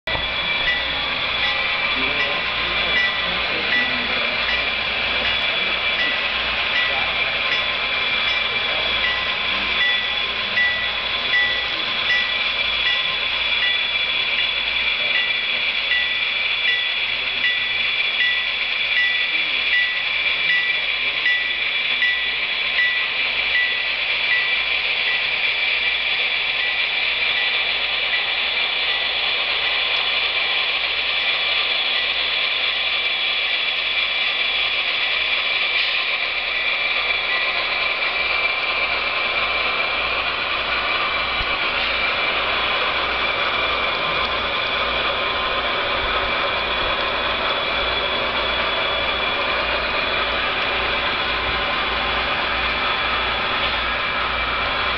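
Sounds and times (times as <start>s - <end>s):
model train whirring and clattering: 0.1s - 54.9s.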